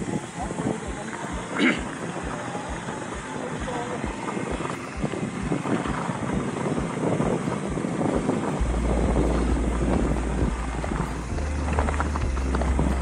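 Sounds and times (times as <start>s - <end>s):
wind rumble on microphone: 0.0s - 13.0s
bike tyres crunching on gravel: 0.1s - 13.0s.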